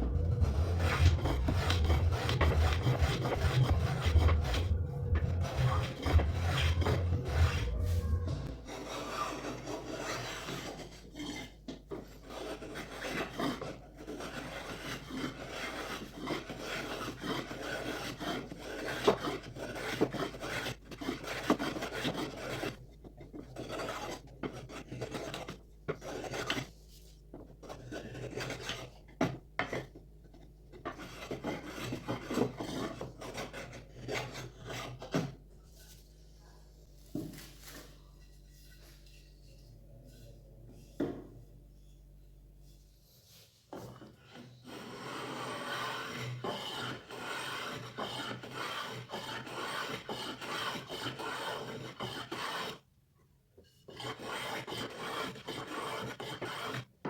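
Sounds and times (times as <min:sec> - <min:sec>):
file scraping hardwood: 0:00.0 - 0:36.1, 0:42.6 - 0:52.9, 0:53.6 - 0:57.0.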